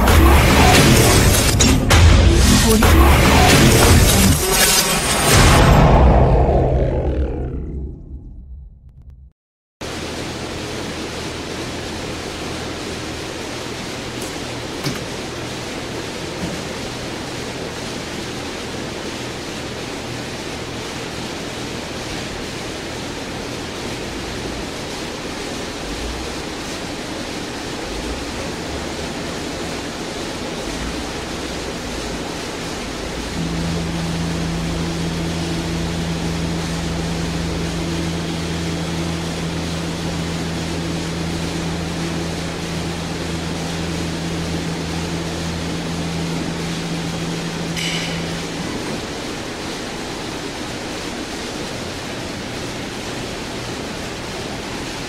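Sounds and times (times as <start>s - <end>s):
vacuum pumps rushing: 0.0s - 8.4s, 10.0s - 55.0s
motor low hum: 0.0s - 15.8s, 22.5s - 54.5s.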